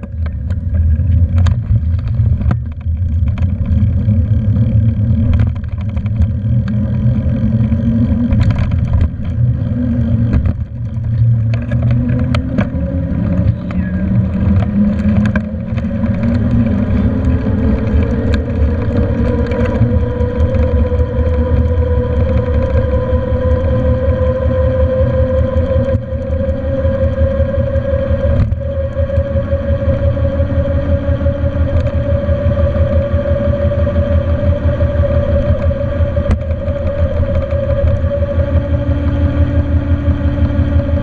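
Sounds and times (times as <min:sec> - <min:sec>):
bicycle clicks and rattles: 0:00.0 - 0:41.0
steady hum rising in pitch: 0:00.0 - 0:41.0
wind rumbling on microphone: 0:00.0 - 0:41.0.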